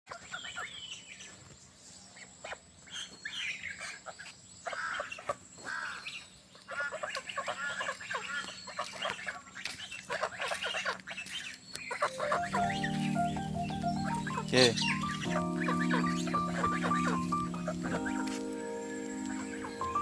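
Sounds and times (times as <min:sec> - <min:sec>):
young geese calling: 0:02.2 - 0:20.0.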